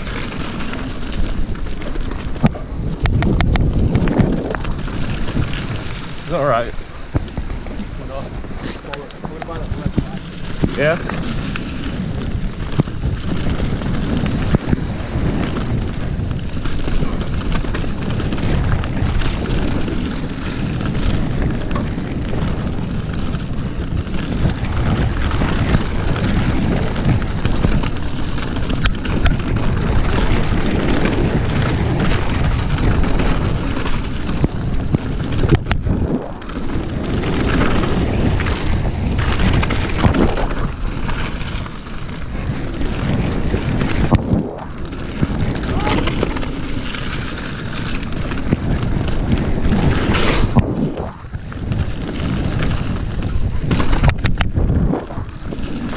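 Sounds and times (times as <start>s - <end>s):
bike rattling over rocky trail: 0.0s - 55.9s
wind buffeting microphone: 0.0s - 55.9s.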